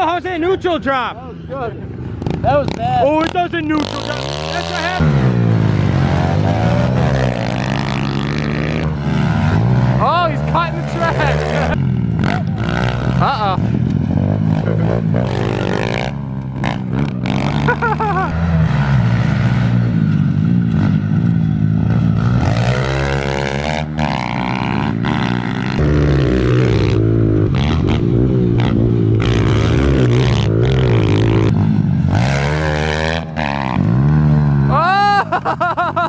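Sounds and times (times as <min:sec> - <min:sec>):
pit bike engines revving: 0:00.0 - 0:36.0.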